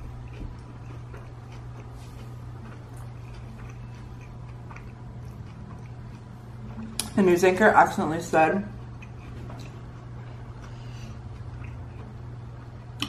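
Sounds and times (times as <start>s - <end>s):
person chewing food: 0.0s - 7.1s, 8.8s - 13.0s
steady low hum: 0.0s - 13.0s.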